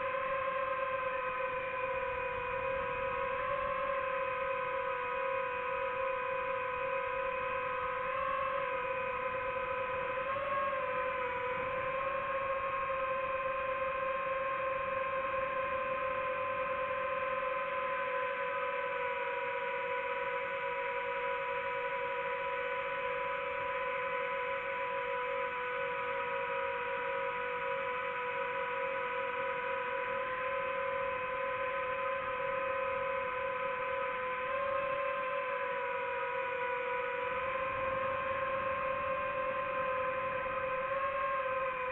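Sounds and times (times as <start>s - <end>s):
drone propellers whining: 0.0s - 23.0s, 23.9s - 41.9s.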